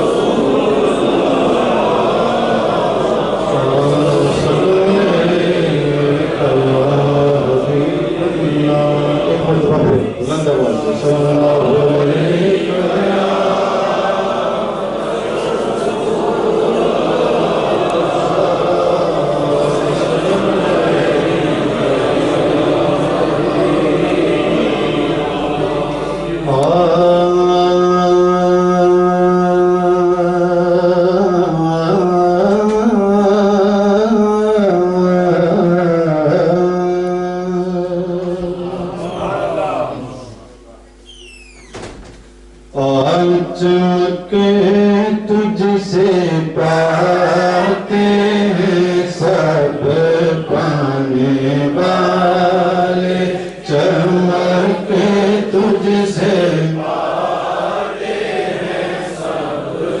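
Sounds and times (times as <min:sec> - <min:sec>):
men chanting devotional recitation: 0:00.0 - 0:41.0, 0:42.3 - 1:00.0.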